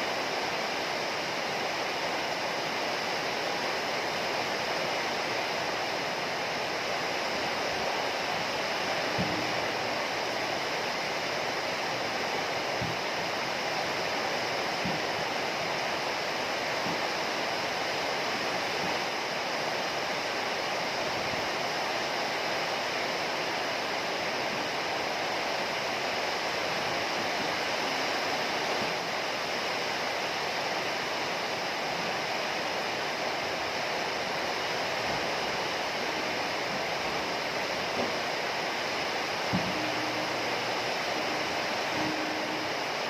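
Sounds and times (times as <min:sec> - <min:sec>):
heavy rain hiss: 0:00.0 - 0:43.0.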